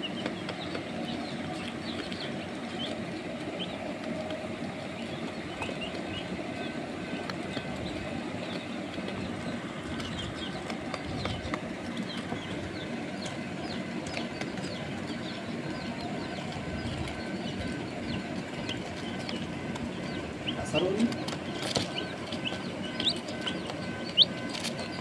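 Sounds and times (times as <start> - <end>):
chicks peeping: 0.0 - 25.0
steady low rumble: 0.0 - 25.0.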